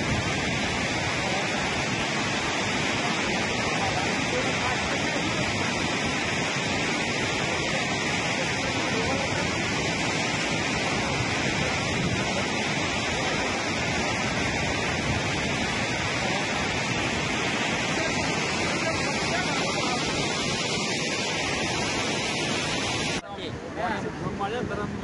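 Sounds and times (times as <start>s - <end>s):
water pouring through spillway: 0.0s - 23.2s.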